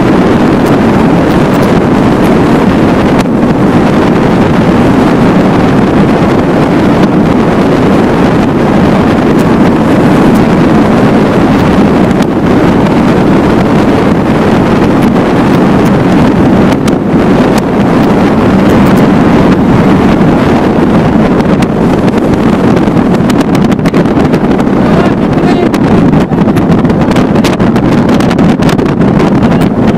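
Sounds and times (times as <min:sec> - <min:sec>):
motorboat engine running: 0:00.0 - 0:29.9
wind buffeting microphone: 0:00.0 - 0:29.9.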